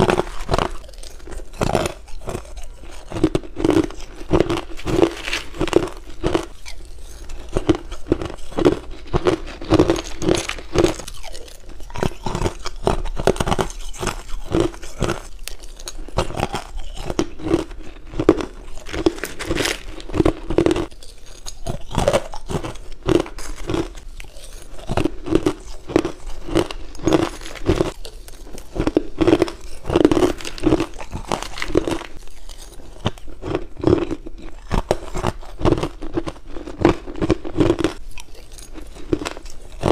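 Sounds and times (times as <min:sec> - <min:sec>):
crunching ice chewing: 0:00.0 - 0:39.9.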